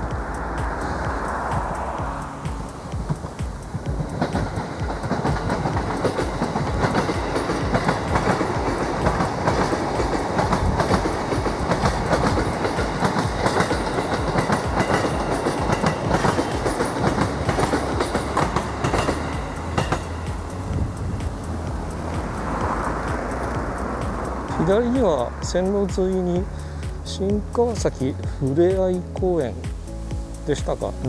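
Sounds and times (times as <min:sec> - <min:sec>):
train wheels clattering over rails: 0:00.7 - 0:27.6.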